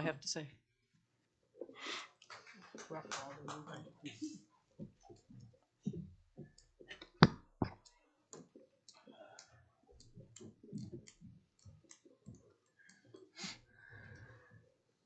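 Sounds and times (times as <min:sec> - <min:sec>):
soft footsteps: 0:01.6 - 0:14.7.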